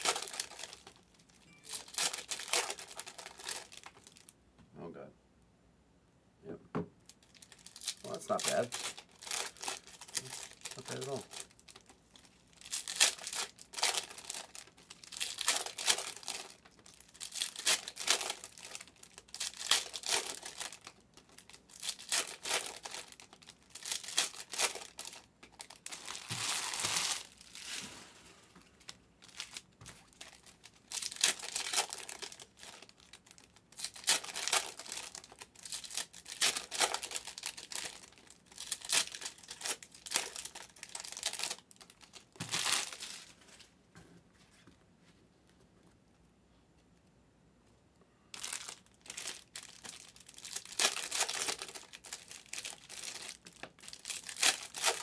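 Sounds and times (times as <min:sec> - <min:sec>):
card pack wrappers tearing: 0:00.0 - 0:01.0, 0:01.7 - 0:04.2, 0:07.4 - 0:11.9, 0:12.6 - 0:28.0, 0:28.8 - 0:43.2, 0:48.4 - 0:55.0.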